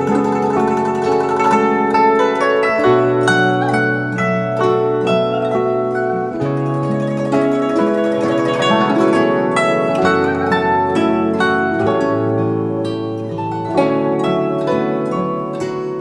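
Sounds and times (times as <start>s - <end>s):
plucked zither melody: 0.0s - 16.0s.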